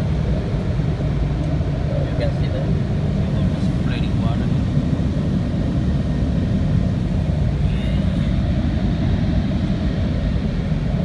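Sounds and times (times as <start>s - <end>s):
air-blower dryers blasting: 0.0s - 11.0s.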